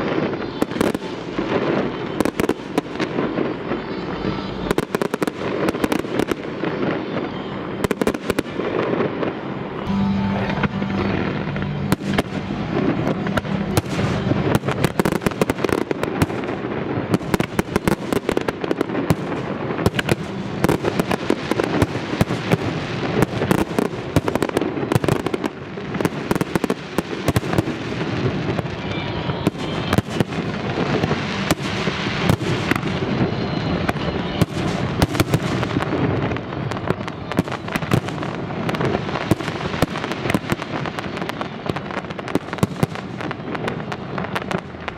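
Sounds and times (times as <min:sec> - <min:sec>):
fireworks crackling: 0:00.0 - 0:44.9.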